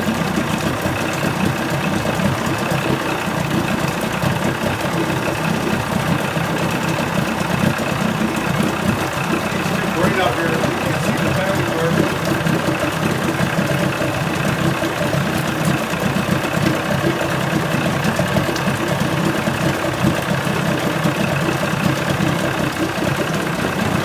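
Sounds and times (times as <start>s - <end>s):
outboard motor idling: 0.0s - 24.0s.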